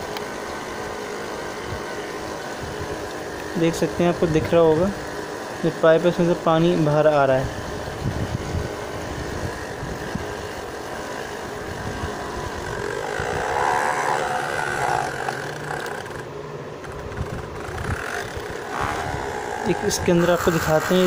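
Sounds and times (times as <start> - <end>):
small water pump motor running: 0.0 - 21.0
water churning through pipe: 0.0 - 21.0.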